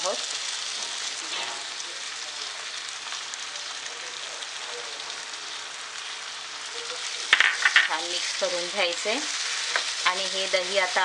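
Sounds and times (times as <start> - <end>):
masala sizzling in frying pan: 0.0 - 11.0.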